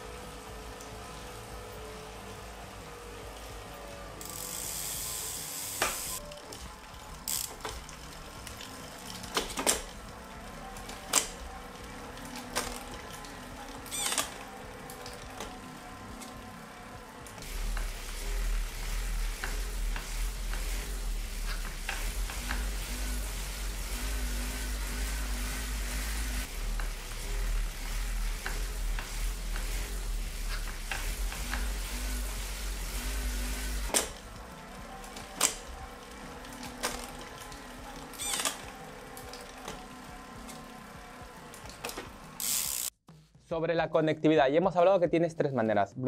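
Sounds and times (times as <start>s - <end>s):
bike trainer humming: 0.0s - 42.9s
tyre hissing on roller: 0.0s - 42.9s.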